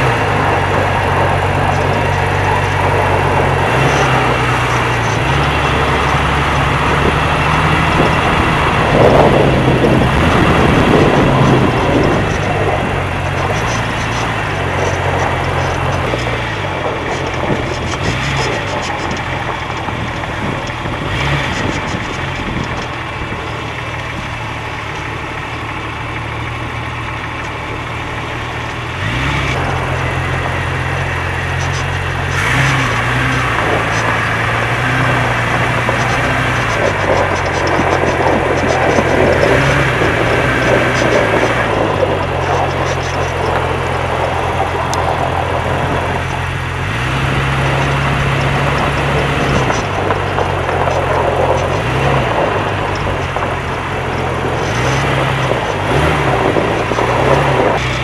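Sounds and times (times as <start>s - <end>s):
car engine and drivetrain: 0.0s - 58.0s
tyre and road noise: 0.0s - 58.0s.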